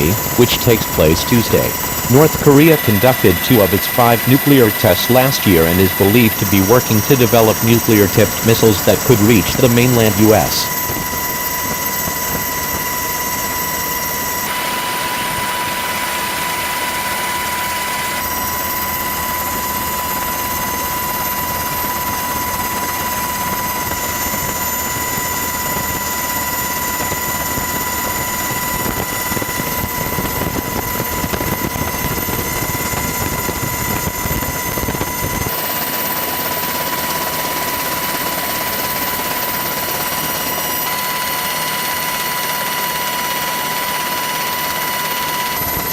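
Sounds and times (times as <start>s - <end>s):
aircraft engine whine: 0.0s - 45.9s.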